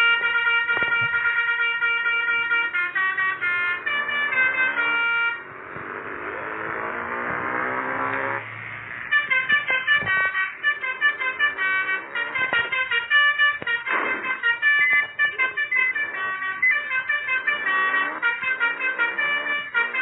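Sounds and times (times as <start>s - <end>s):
multi-tone horn playing a tune: 0.0s - 8.4s, 9.0s - 20.0s.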